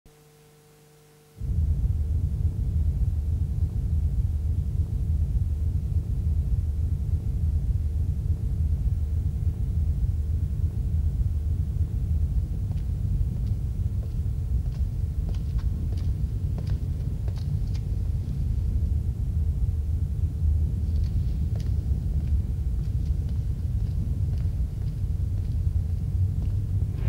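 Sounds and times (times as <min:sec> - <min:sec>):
faint constant hum: 0:00.1 - 0:27.0
steady low rumble: 0:01.4 - 0:27.0.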